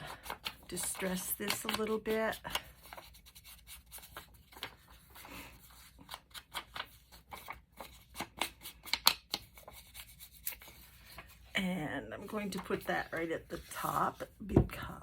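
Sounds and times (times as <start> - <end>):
scraping and rubbing on paper: 0.0 - 11.6, 12.2 - 14.5.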